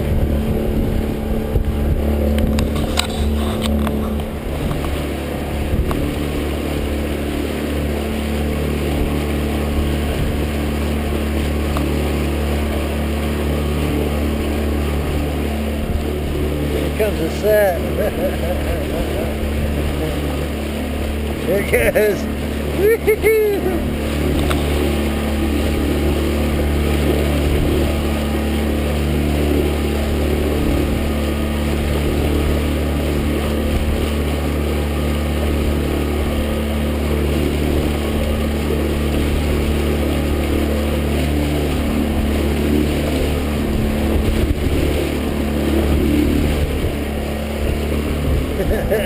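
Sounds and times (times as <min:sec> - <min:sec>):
outboard motor running: 0:00.0 - 0:49.0
wind and water hiss: 0:00.0 - 0:49.0.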